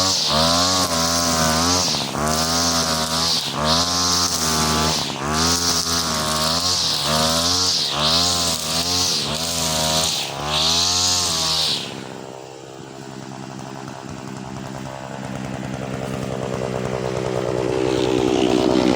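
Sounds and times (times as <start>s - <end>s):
brush cutter engine revving: 0.0s - 18.9s.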